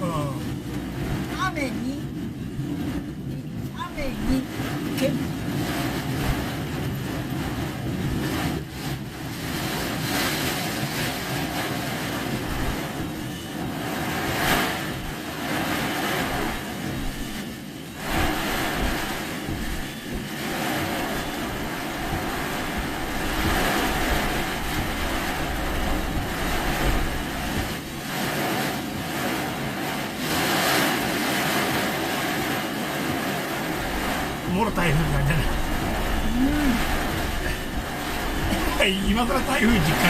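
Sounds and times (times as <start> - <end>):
car engine: 0.0 - 30.2, 31.0 - 40.0
heavy rain: 0.0 - 40.0
tyre spray on wet road: 5.4 - 40.0.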